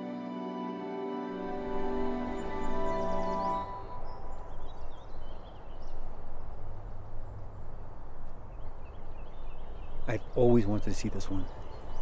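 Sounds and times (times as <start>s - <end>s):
steady background hiss: 1.4s - 12.0s
small birds chirping: 1.7s - 12.0s.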